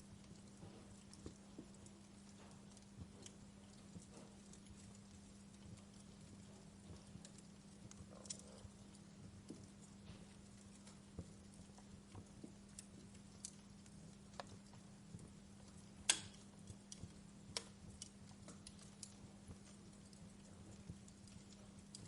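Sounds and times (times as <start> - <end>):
faint low hum: 0.0 - 22.0
wood fire crackling: 0.0 - 22.0.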